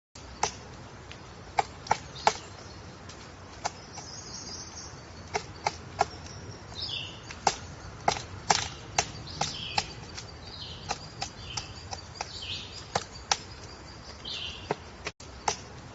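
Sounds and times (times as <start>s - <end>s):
woodpecker knocking on wood: 0.2s - 4.3s, 5.2s - 15.8s.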